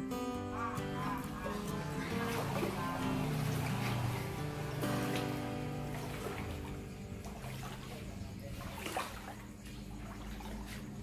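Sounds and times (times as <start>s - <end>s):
low steady hum: 0.0s - 11.0s
water sloshing and splashing: 0.2s - 11.0s.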